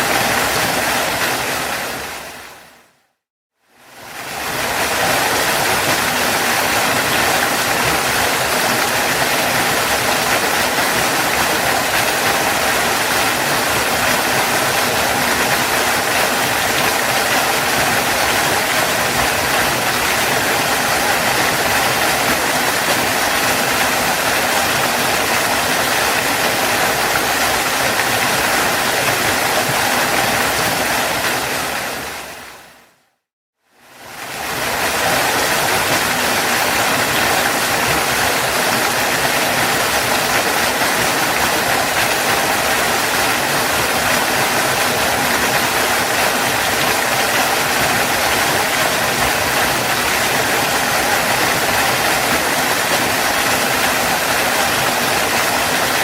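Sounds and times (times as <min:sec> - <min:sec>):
waterfall rushing: 0:00.0 - 0:02.9, 0:03.8 - 0:32.9, 0:33.8 - 0:56.0.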